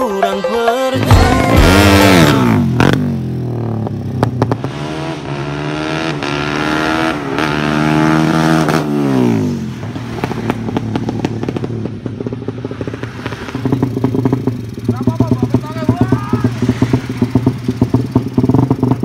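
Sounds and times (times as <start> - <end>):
exhaust crackles: 1.0 - 19.0
motorcycle engine revving: 1.0 - 19.0.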